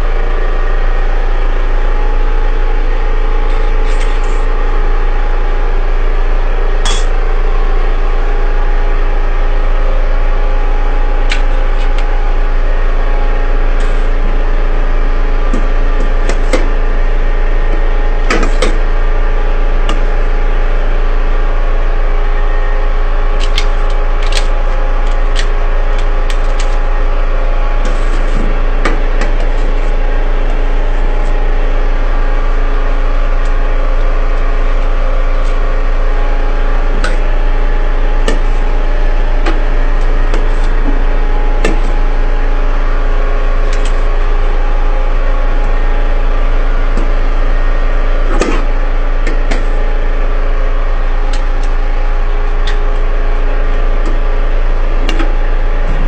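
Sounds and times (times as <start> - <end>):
machine motor humming: 0.0 - 56.0.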